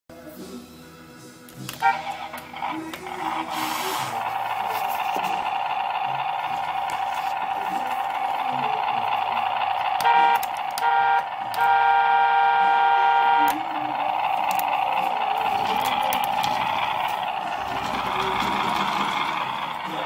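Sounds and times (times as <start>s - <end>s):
toy car engine hum: 1.5s - 20.0s
toy car horn honking: 1.7s - 20.0s.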